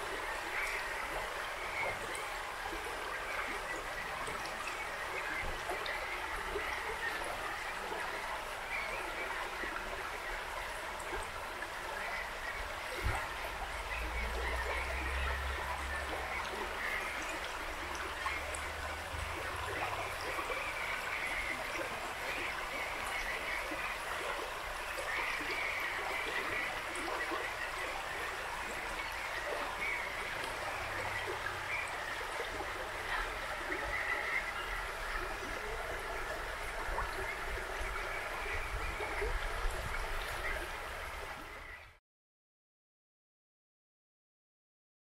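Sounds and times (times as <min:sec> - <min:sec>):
river flowing: 0:00.0 - 0:41.8.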